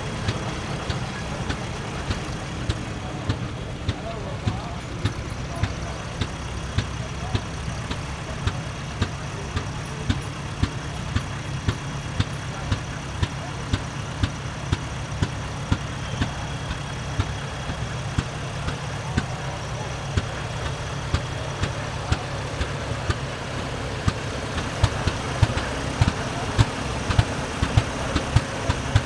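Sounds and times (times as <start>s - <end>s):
sharp exhaust pops: 0.0s - 29.0s
tractor engine rumbling: 0.0s - 29.0s.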